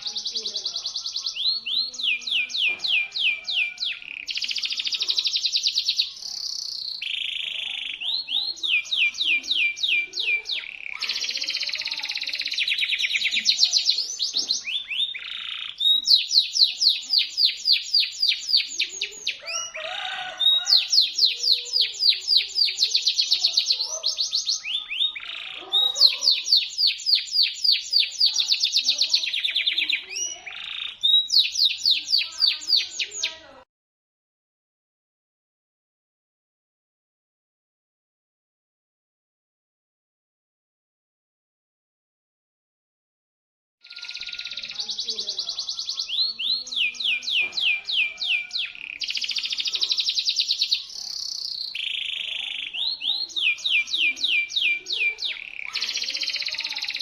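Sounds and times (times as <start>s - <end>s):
canary singing trills: 0.0s - 33.6s, 43.8s - 57.0s.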